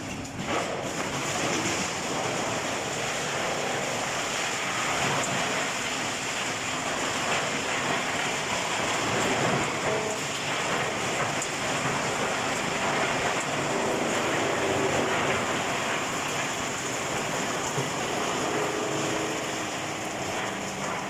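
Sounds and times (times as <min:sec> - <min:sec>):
wood chipper running: 0:00.0 - 0:21.0.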